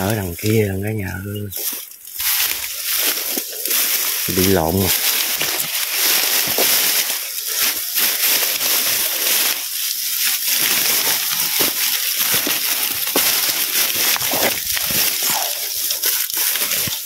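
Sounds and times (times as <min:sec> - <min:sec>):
footsteps through grass and brush: 0:00.0 - 0:17.0.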